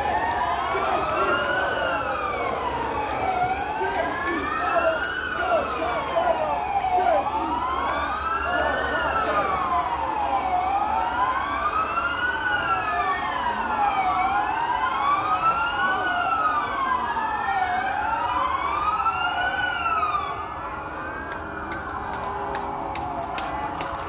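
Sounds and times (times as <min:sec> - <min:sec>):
air-raid sirens wailing: 0:00.0 - 0:24.0.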